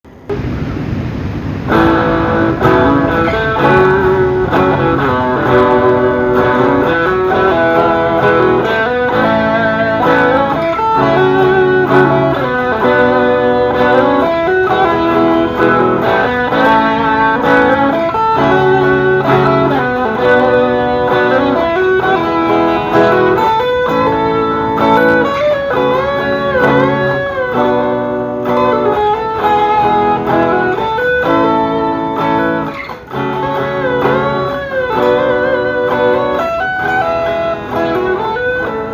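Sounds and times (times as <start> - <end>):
chord backing: 0.1 - 38.9
electric guitar melody: 0.1 - 38.9.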